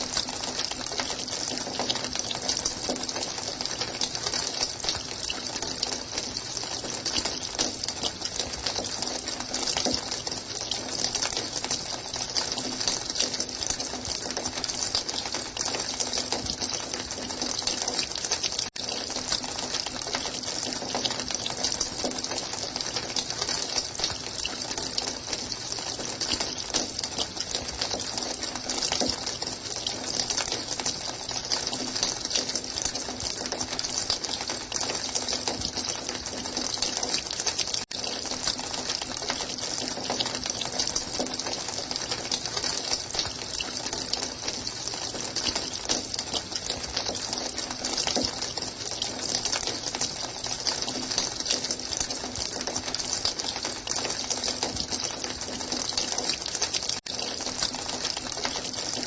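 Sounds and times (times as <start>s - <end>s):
running water gushing: 0.0s - 59.0s.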